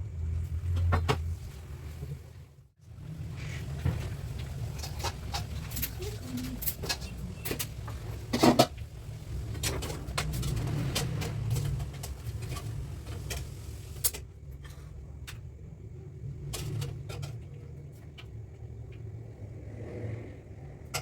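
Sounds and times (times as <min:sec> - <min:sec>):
low kitchen rumble: 0:00.0 - 0:21.0.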